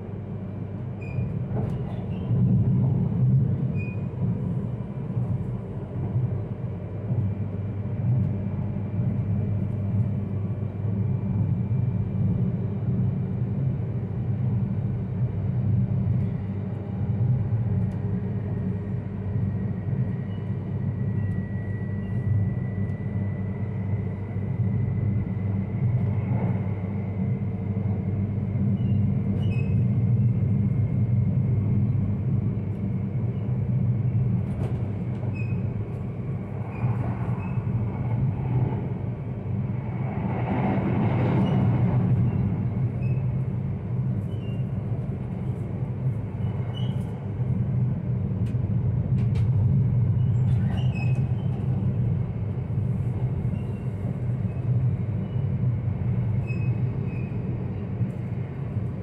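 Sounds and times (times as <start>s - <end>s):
train cabin rumble: 0.0s - 59.0s.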